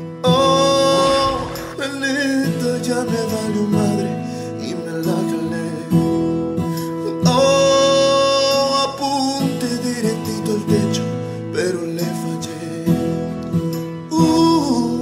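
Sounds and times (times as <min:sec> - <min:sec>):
ballad with acoustic guitar: 0:00.0 - 0:15.0.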